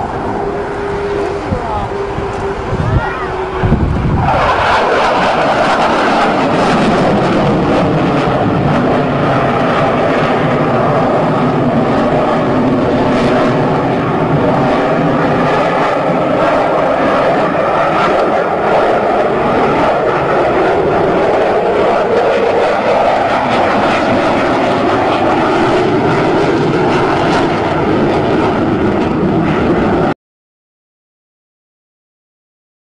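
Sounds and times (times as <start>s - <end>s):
aircraft engine: 0.0s - 30.2s.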